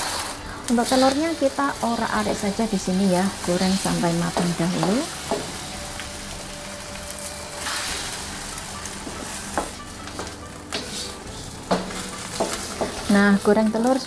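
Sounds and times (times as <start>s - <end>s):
spatula scraping a pan: 0.0s - 2.4s, 4.6s - 14.0s
egg sizzling in hot oil: 0.0s - 14.0s.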